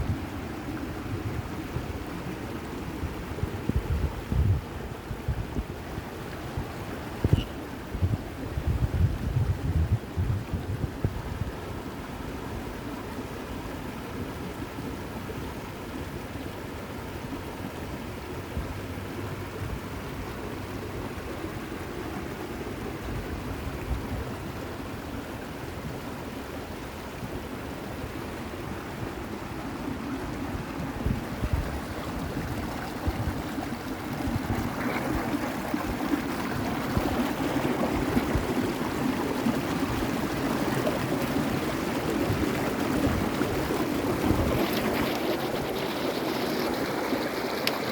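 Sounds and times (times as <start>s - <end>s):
stream water rushing and splashing: 0.0s - 47.9s.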